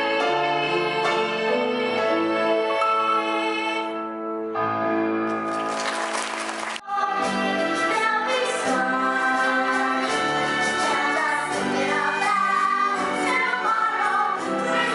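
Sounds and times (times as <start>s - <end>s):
instrumental music with singing: 0.0s - 5.4s, 6.6s - 14.9s.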